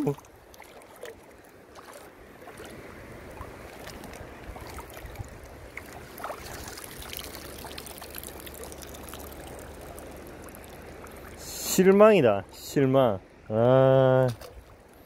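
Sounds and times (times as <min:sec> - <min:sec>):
water swishing and trickling: 0:00.0 - 0:15.0.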